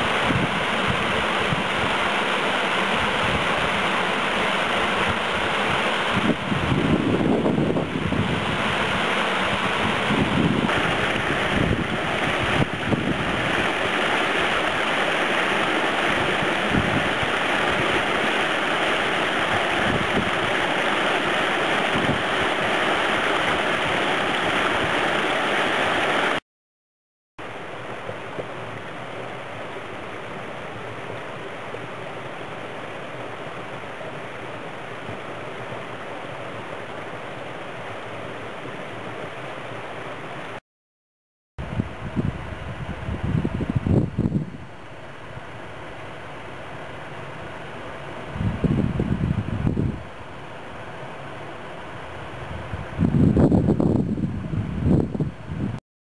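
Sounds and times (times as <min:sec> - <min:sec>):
stream water rushing over rocks: 0:00.0 - 0:26.4, 0:27.4 - 0:40.6, 0:41.7 - 0:54.0.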